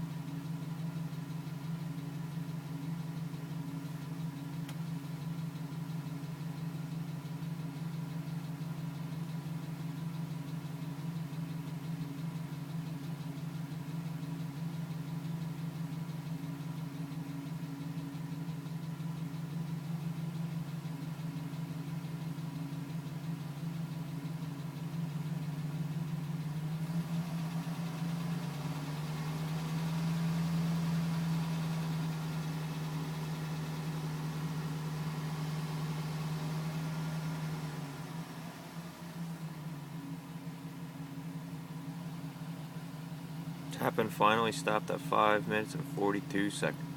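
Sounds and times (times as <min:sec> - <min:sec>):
pickup engine idling: 0:00.0 - 0:46.9.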